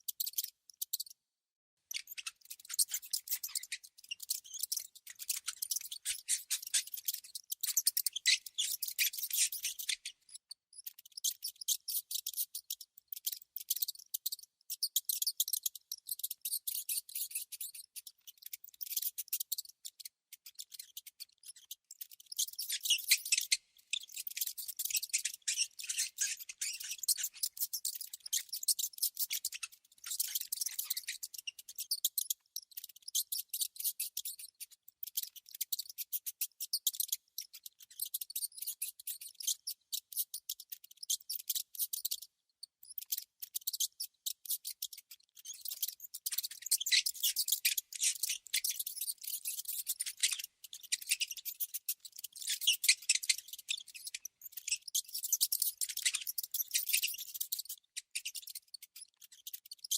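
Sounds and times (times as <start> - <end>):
rodent clicking chatter: 1.9 - 59.9.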